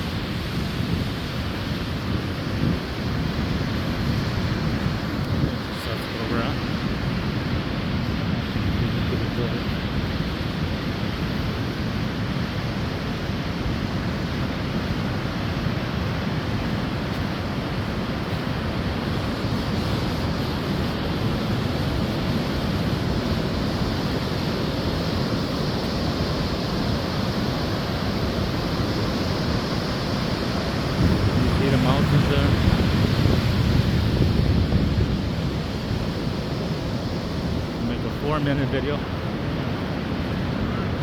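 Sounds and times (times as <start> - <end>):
ocean surf rushing: 0.0 - 41.0
wind on microphone: 0.0 - 41.0.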